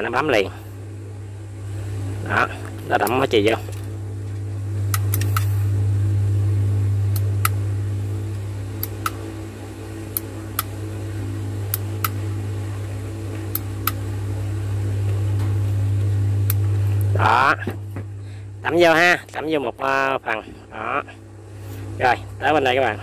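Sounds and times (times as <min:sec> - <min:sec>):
soldering gun humming: 0:00.0 - 0:23.0.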